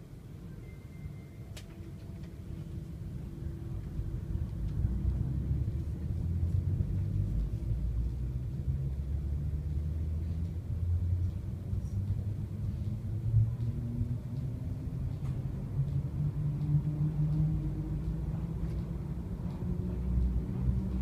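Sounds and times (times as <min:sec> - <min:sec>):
train cabin low rumble: 0:00.0 - 0:21.0.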